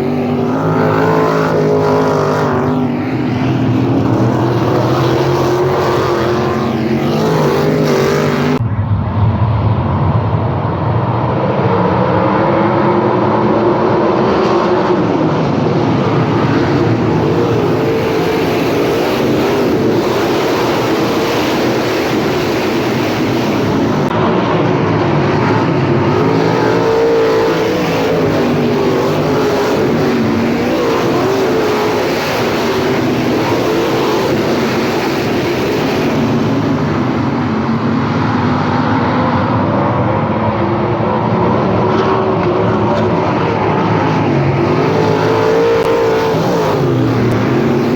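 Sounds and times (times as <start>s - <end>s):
race car engines roaring: 0.0s - 47.9s.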